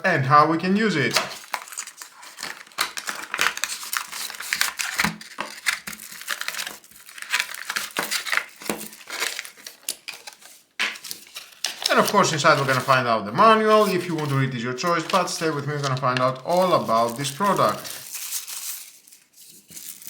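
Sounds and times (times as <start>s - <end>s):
packaging crinkling: 1.0s - 20.0s.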